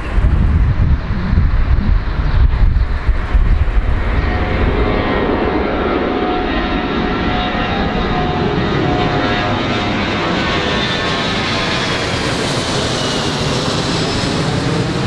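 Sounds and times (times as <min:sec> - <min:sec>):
airplane engines roaring: 0:00.0 - 0:15.0
wind rumble on microphone: 0:00.0 - 0:15.0.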